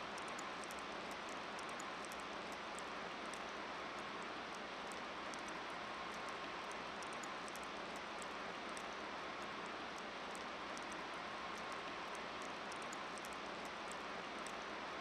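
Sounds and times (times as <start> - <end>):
faint high-pitched ticks: 0.0 - 15.0.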